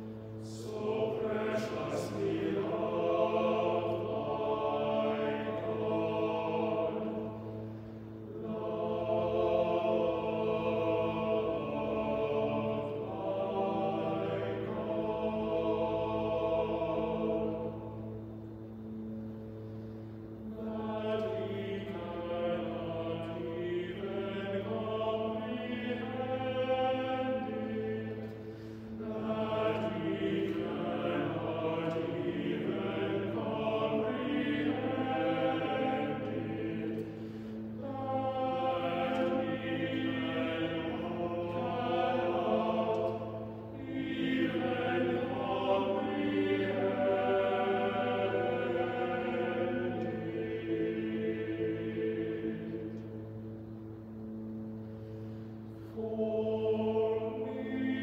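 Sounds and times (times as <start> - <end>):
men's choir singing: 0.0 - 19.2, 20.4 - 58.0.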